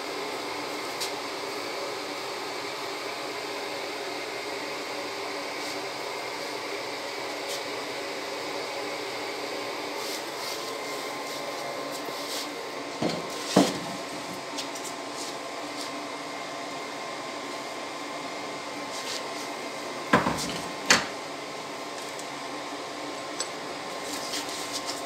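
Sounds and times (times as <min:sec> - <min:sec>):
hair dryer whirring hum: 0:00.0 - 0:24.0.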